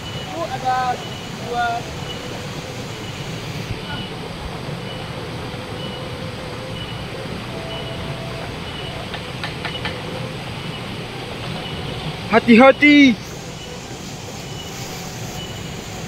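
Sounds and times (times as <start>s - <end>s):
shallow stream rushing: 0.0s - 16.0s.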